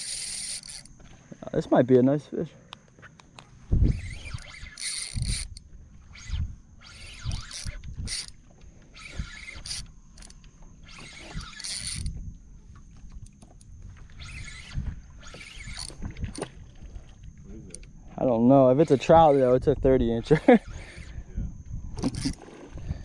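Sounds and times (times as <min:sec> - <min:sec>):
fishing reel whirring: 0:00.0 - 0:00.9, 0:03.7 - 0:12.2, 0:13.2 - 0:21.3, 0:21.9 - 0:23.0.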